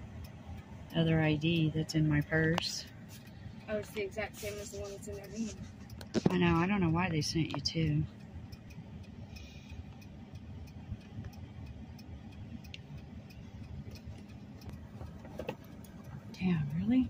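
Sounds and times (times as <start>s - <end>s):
car engine idling: 0.0s - 17.0s
faint clicks: 0.0s - 17.0s.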